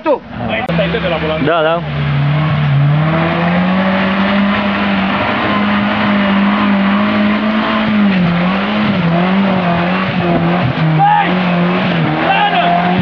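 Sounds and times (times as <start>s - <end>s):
vehicle engine revving hard: 0.2s - 13.0s.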